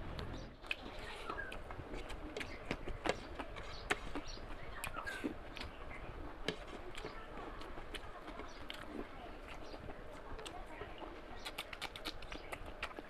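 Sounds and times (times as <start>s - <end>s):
chewing and lip smacks: 0.1s - 13.0s
fingers working food on a plate: 0.7s - 13.0s.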